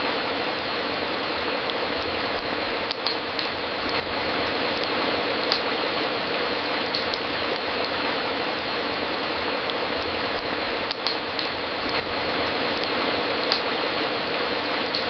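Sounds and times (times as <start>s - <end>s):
fire crackling and popping: 0.7s - 15.0s.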